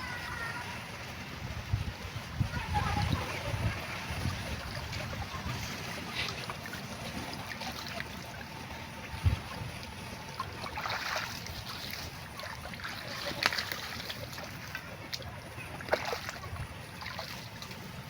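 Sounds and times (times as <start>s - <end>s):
shallow water trickling and sloshing: 0.0s - 18.0s.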